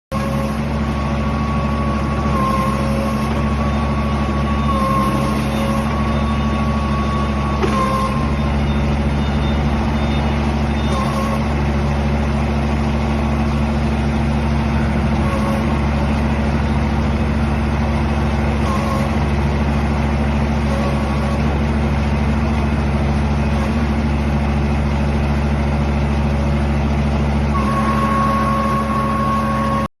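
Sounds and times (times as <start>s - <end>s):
diesel engine running: 0.1s - 29.9s.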